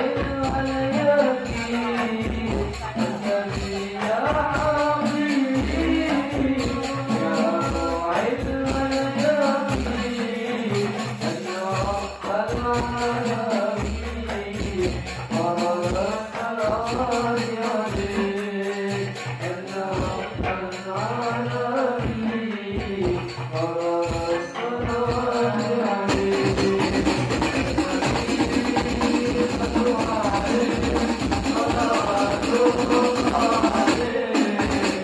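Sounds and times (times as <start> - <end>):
boys singing into microphones: 0.0 - 35.0
deep drum beats: 0.0 - 35.0
frame drums with jingles: 0.0 - 35.0.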